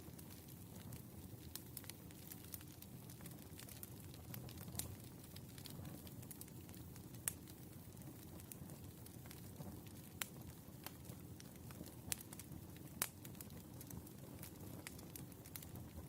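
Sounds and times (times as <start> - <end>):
low rush of burning: 0.0 - 16.0
wood fire crackling softly: 0.0 - 16.0.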